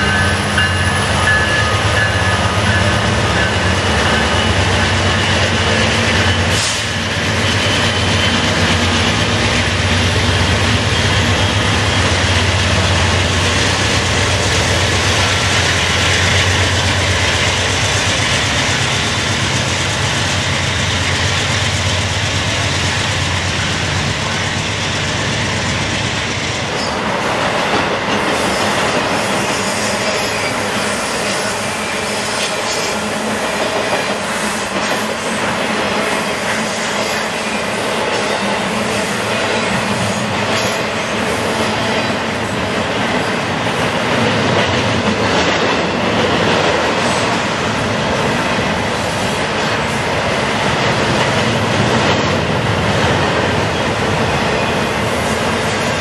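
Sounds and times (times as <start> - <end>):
diesel locomotive engine drone: 0.0 - 56.0
steel wheels rumbling on rails: 0.0 - 56.0.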